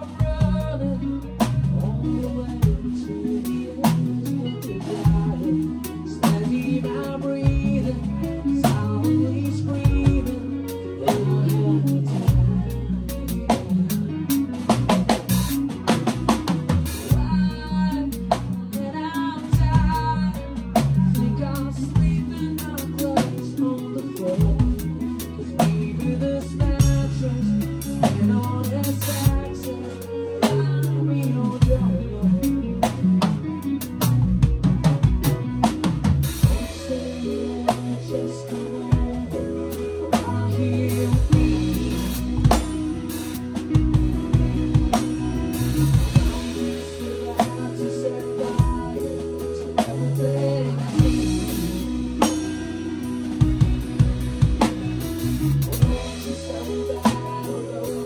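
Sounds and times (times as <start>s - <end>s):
bass notes: 0.0s - 58.0s
drum kit: 0.0s - 58.0s
guitar: 0.0s - 58.0s.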